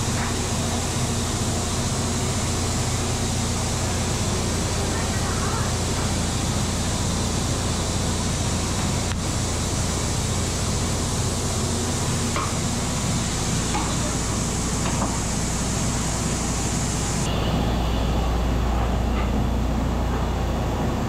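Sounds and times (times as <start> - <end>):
stoves rushing with low hum: 0.0 - 21.0.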